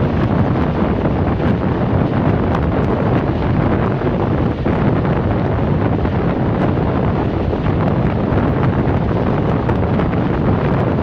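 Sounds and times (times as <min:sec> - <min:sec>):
train rumbling on rails: 0:00.0 - 0:11.0
wind buffeting microphone: 0:00.0 - 0:11.0.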